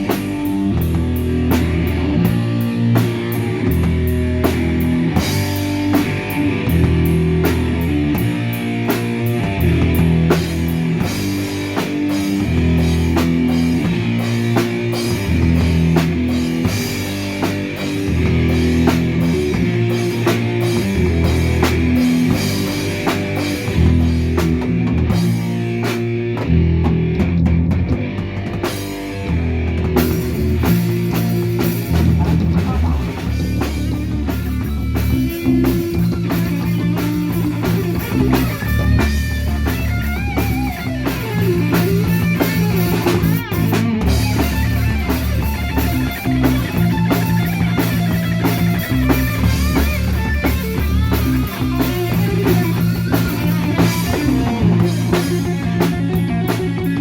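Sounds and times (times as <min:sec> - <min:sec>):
distorted electric guitar riffs: 0:00.0 - 0:57.0
drum kit played hard: 0:00.0 - 0:57.0.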